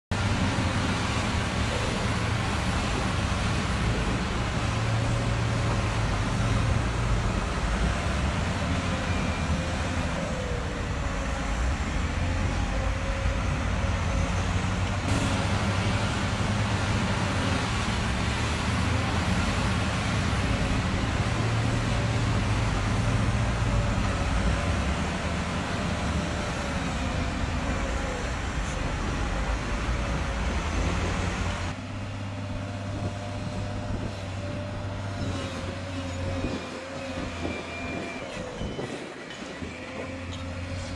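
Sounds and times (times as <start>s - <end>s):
truck engine running: 0.1s - 35.1s.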